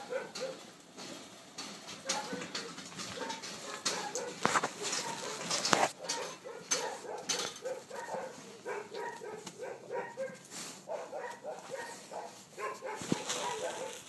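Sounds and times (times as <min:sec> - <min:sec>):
clicks and rustles: 0:00.0 - 0:14.0
dog whining: 0:02.1 - 0:14.0.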